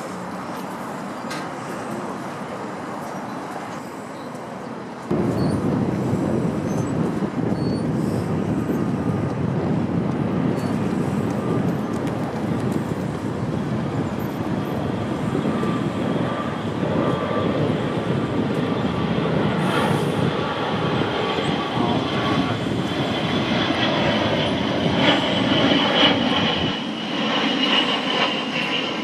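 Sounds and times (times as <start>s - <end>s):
wind rumbling on microphone: 4.7s - 29.0s.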